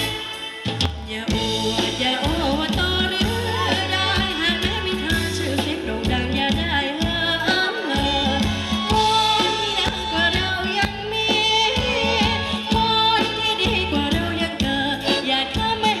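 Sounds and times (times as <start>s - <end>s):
drum kit and bass beat: 0.0s - 16.0s
person singing: 0.0s - 16.0s.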